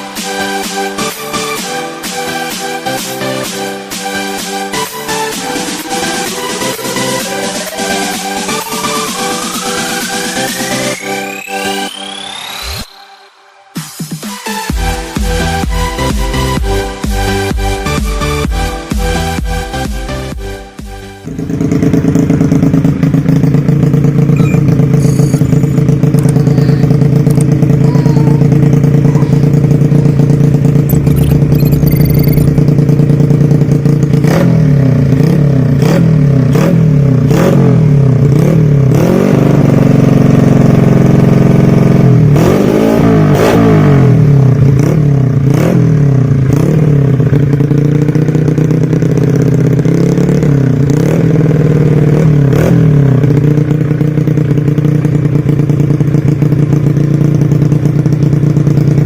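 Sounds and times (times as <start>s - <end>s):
motorcycle engine idling and revving: 0.0s - 13.0s, 13.8s - 59.0s.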